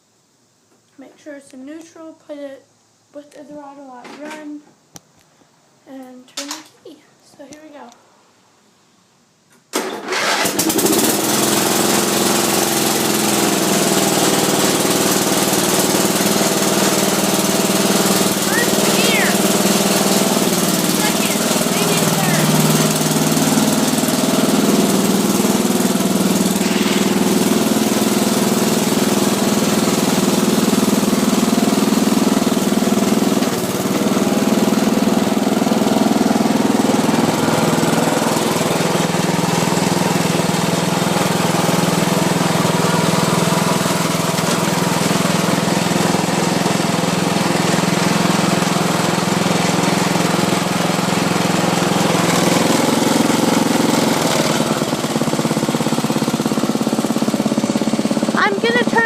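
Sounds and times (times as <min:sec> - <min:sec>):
riding mower engine running: 0:09.8 - 0:59.0.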